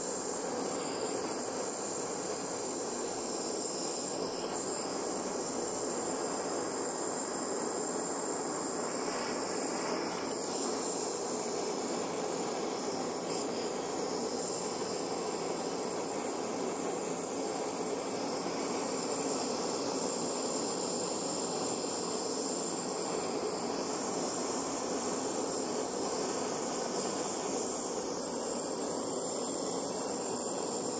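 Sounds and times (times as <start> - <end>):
gas torch flame hissing: 0.0 - 30.9.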